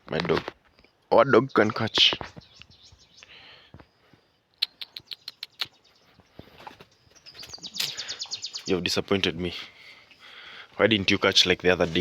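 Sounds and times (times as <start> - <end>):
bird chirping: 0.6 - 12.0.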